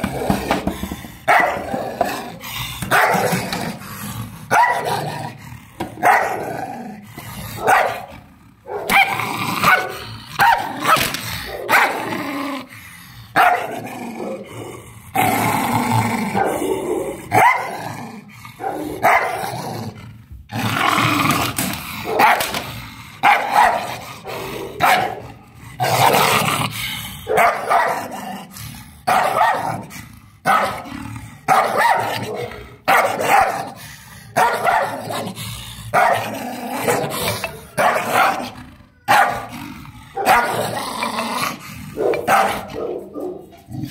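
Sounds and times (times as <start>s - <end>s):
dog growling: 0.0s - 43.9s
dog barking aggressively: 1.2s - 3.8s, 4.5s - 12.3s, 13.3s - 15.4s, 16.2s - 18.0s, 18.6s - 19.8s, 20.6s - 26.5s, 27.2s - 28.4s, 29.0s - 43.9s.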